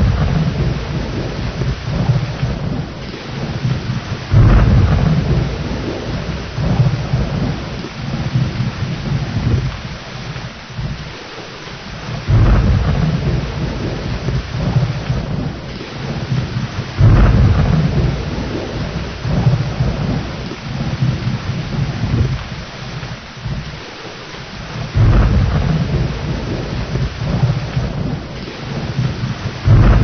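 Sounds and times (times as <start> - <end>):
heavy rain: 0.0 - 30.0
thunder rumbling: 0.0 - 30.0.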